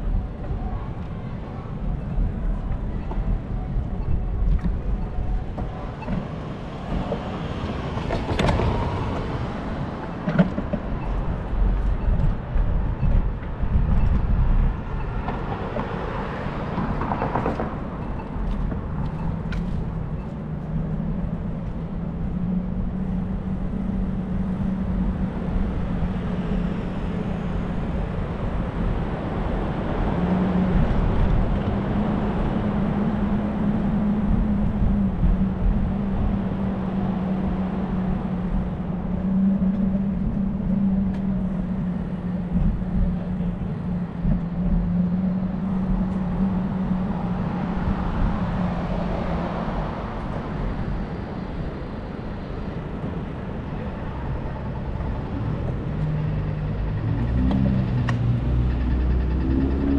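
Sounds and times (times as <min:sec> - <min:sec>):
cars passing: 0:00.0 - 0:59.9
wind buffeting microphone: 0:00.0 - 0:59.9.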